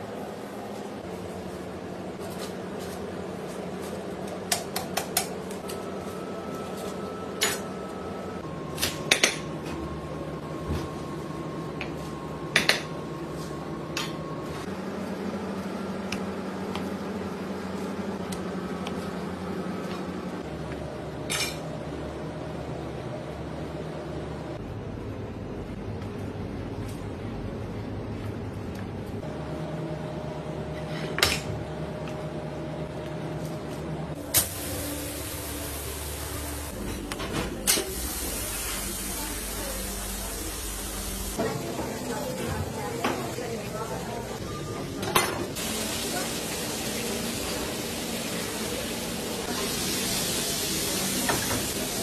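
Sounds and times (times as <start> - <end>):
steady background hum: 0.0 - 52.0.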